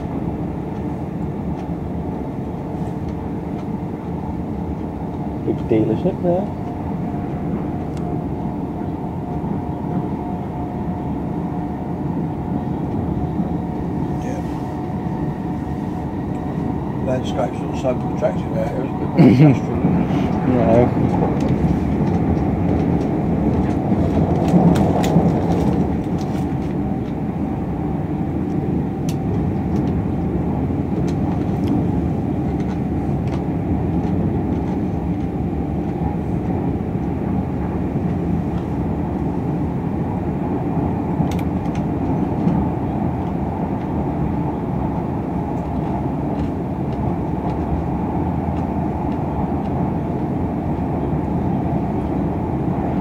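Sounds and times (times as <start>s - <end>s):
train equipment humming: 0.0s - 53.0s.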